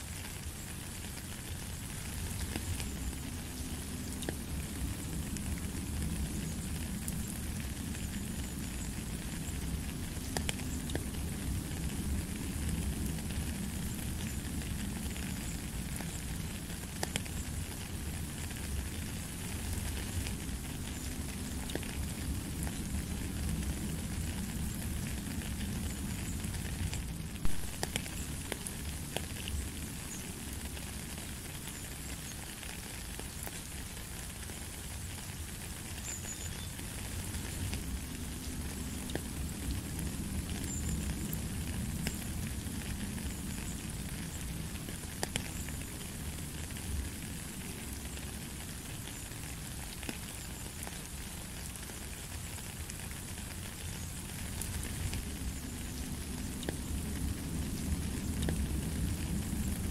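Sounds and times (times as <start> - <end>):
steady rain on gravel: 0.0 - 59.9.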